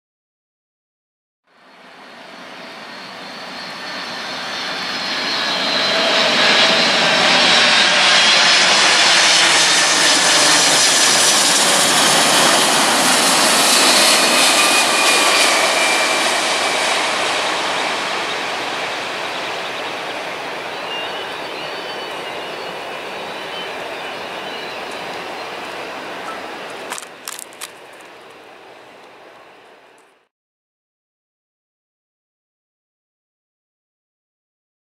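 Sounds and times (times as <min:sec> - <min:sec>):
jet airliner engines roaring: 0:01.5 - 0:30.3.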